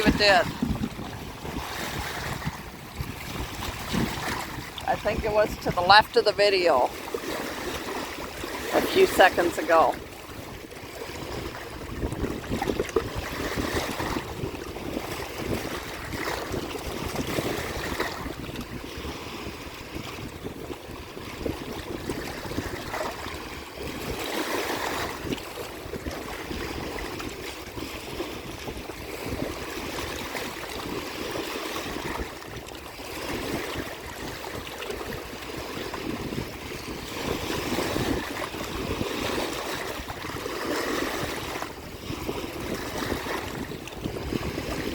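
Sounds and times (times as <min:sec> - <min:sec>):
waves washing against shore: 0:00.0 - 0:44.9
wind buffeting microphone: 0:00.0 - 0:44.9.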